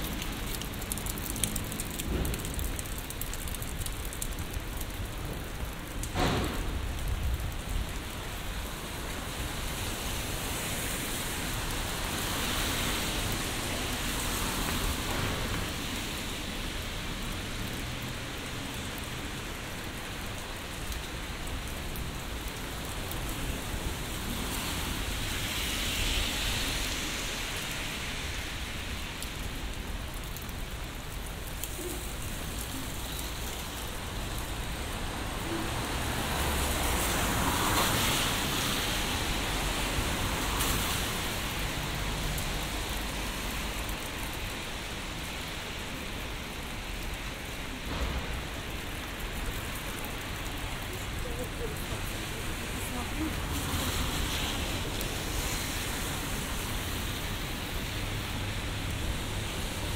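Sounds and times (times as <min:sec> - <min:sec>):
rain on umbrella and pavement: 0:00.0 - 0:59.9.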